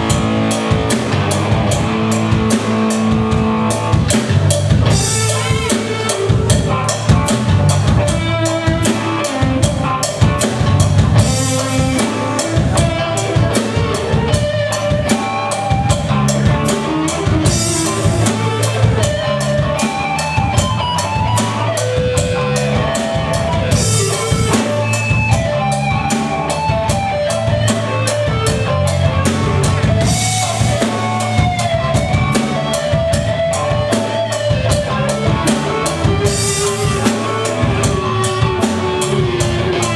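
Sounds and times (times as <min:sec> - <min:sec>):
lead guitar bending pitch: 0:00.0 - 0:39.9
live rock band playing: 0:00.0 - 0:39.9.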